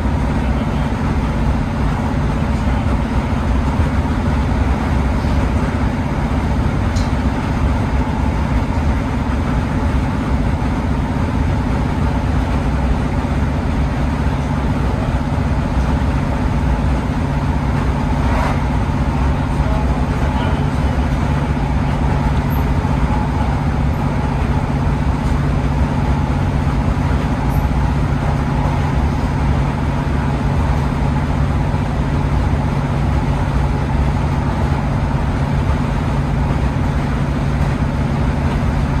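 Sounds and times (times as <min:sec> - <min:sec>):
train diesel engine droning: 0:00.0 - 0:39.0.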